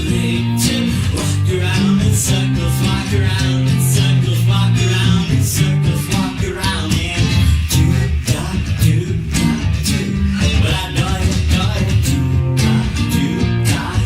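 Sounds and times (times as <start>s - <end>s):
rock band music: 0.0s - 14.0s.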